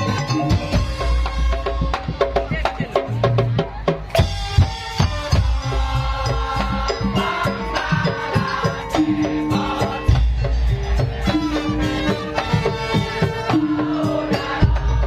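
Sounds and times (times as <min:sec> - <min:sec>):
folk instrumental melody: 0:00.0 - 0:14.7
drum beat: 0:00.0 - 0:15.0
rattling percussion: 0:00.0 - 0:15.0.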